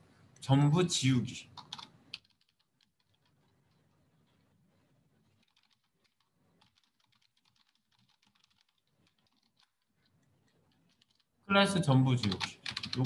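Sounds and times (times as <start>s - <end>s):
faint keyboard typing: 1.4s - 13.0s.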